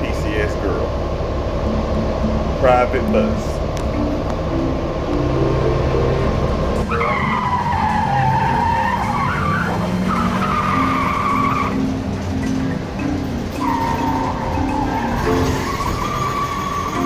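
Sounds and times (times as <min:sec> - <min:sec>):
bus rumbling along: 0:00.0 - 0:17.0
high wavering squeal: 0:01.5 - 0:17.0.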